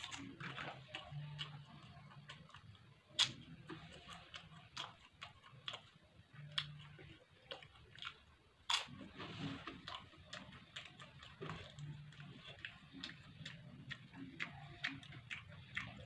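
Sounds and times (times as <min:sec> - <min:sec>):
person chewing with crunches: 0:00.0 - 0:16.0.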